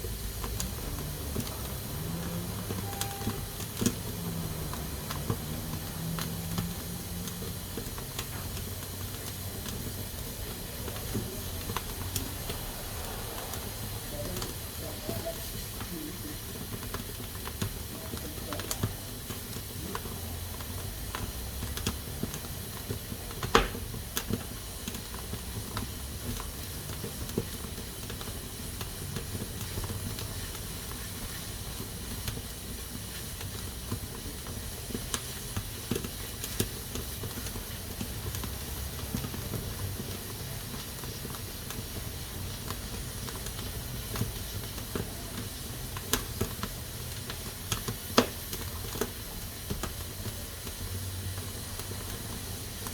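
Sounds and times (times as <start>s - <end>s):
pressure cooker hissing: 0.0s - 52.9s.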